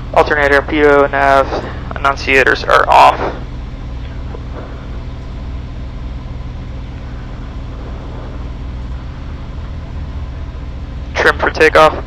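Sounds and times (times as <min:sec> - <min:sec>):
propeller aircraft engine idling: 0:00.0 - 0:12.0.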